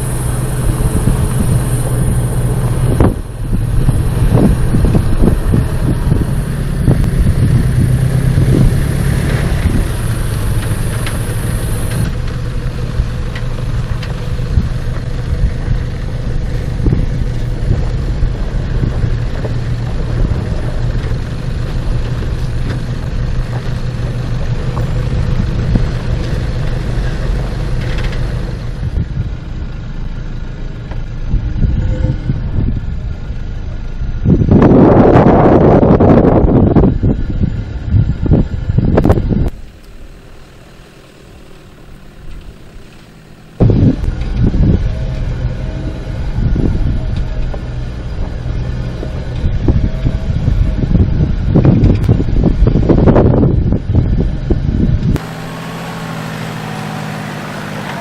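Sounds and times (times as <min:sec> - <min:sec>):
engine running at low revs: 0:00.0 - 0:58.0.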